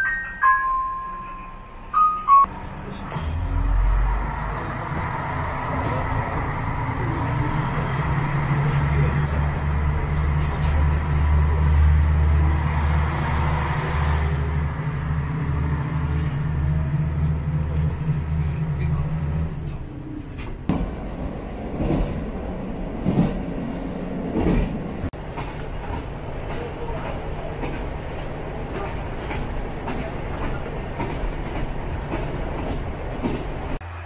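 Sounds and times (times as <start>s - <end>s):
diesel railcar engine droning: 0.0s - 34.0s
train wheels rattling over rails: 2.6s - 33.8s.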